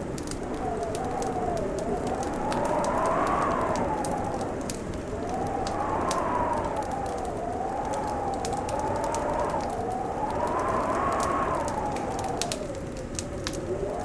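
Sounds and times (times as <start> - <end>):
blizzard wind howling: 0.0 - 14.0
fireplace crackling and popping: 0.0 - 14.0.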